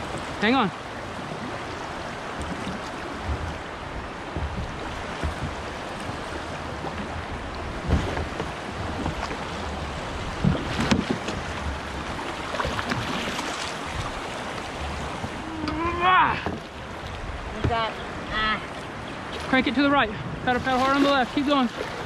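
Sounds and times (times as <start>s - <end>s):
river water rushing and splashing: 0.0s - 22.0s
wind on microphone: 1.1s - 22.0s.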